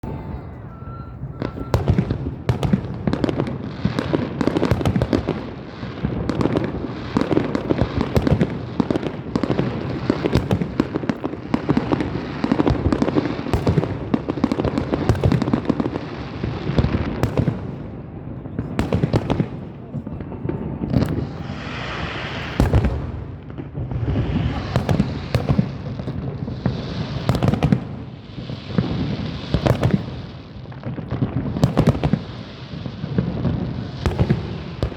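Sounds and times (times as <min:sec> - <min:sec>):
fireworks loud bangs: 0:00.0 - 0:34.9
hissing crackling firework bursts: 0:00.8 - 0:18.0, 0:18.9 - 0:34.9.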